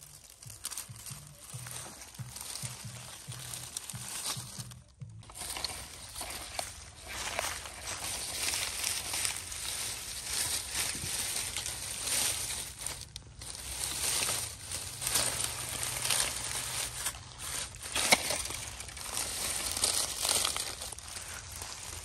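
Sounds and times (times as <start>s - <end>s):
dry leaves and twigs crunching: 0.0s - 22.0s.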